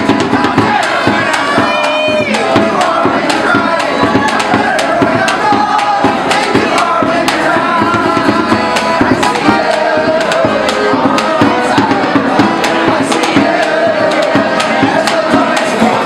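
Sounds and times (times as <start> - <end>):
accordion: 0.0 - 16.0
drum hits: 0.0 - 16.0
person singing: 0.0 - 16.0.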